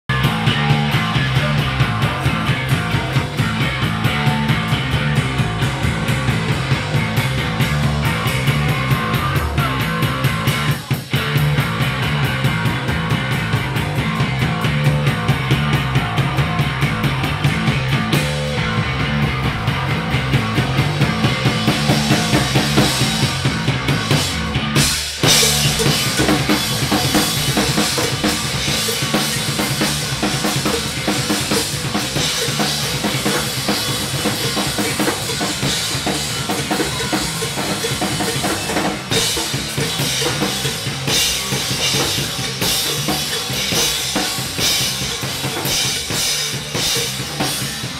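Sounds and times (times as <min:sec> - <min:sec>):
drum kit fast beat: 0:00.0 - 0:47.9
live rock band playing: 0:00.1 - 0:47.9.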